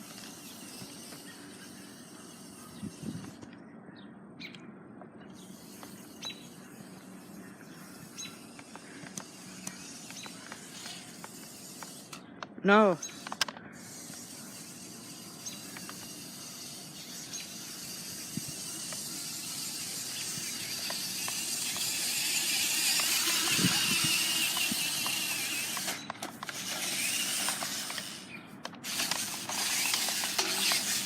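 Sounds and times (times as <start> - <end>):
rc car motor whining: 0.0 - 3.5, 5.3 - 31.0.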